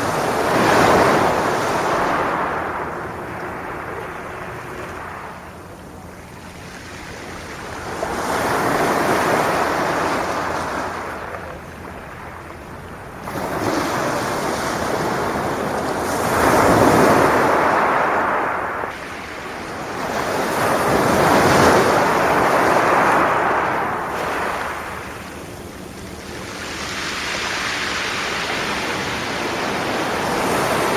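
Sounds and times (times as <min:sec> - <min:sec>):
sea waves breaking: 0:00.0 - 0:30.9.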